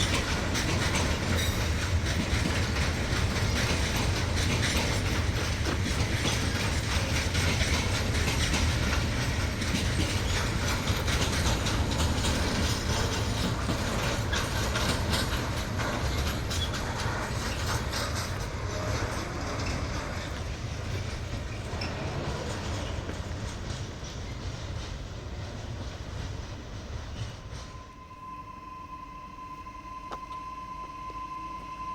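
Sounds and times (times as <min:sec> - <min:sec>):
freight train wheels clattering: 0:00.0 - 0:28.0.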